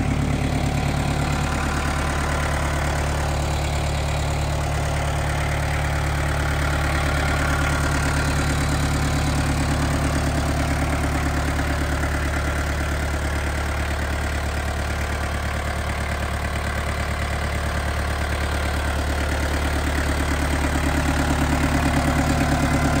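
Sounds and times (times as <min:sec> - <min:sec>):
diesel tractor engine idling: 0:00.0 - 0:23.0.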